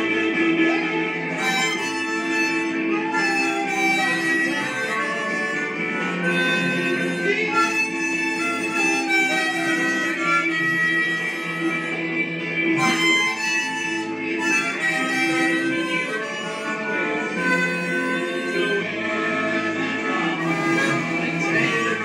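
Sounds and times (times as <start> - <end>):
harmonica playing: 0.0 - 22.0.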